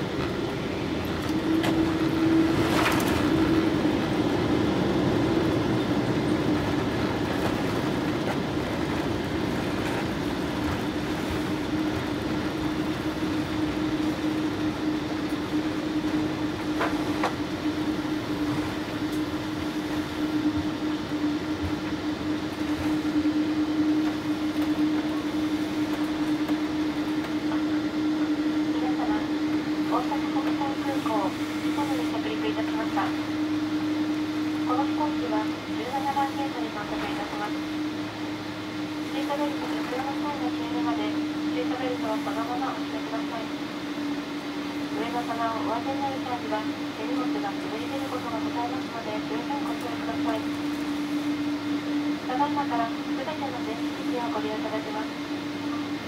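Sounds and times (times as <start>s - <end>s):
engine and wheel rumble: 0.0s - 54.3s
low cabin hum: 0.0s - 56.0s.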